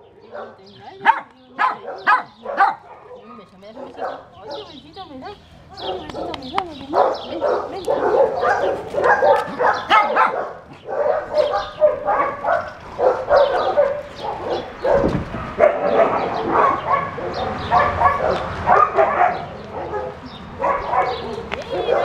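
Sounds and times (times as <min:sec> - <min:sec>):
dogs barking and yipping: 0:00.0 - 0:22.0.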